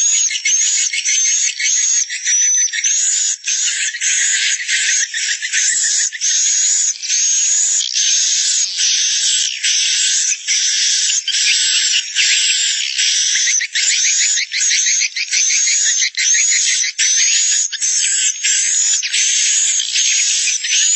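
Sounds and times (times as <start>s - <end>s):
swiftlets twittering and chirping: 0.0s - 20.9s.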